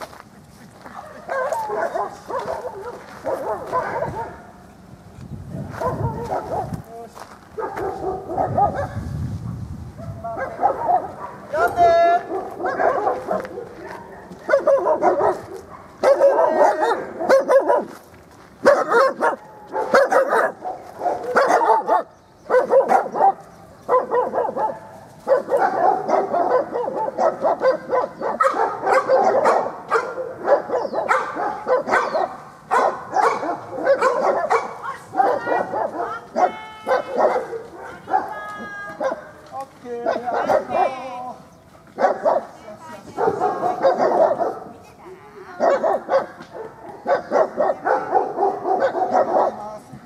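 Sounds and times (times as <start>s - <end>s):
dog barking: 1.0s - 4.6s, 5.6s - 6.8s, 7.6s - 9.0s, 10.0s - 11.5s, 12.2s - 18.0s, 18.6s - 38.4s, 39.0s - 39.4s, 40.0s - 41.0s, 42.0s - 42.5s, 43.2s - 44.8s, 45.6s - 49.8s.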